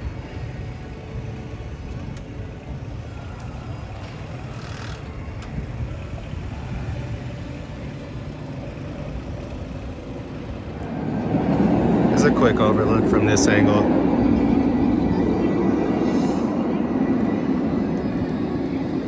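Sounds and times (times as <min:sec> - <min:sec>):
heavy engines rumbling: 0:00.0 - 0:19.0.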